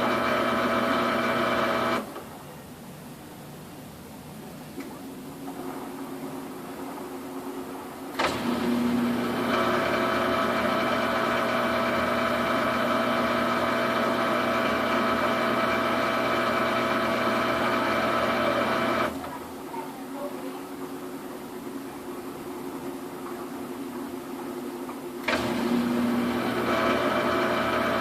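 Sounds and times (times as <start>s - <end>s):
washing machine spin whine: 0.0s - 28.0s.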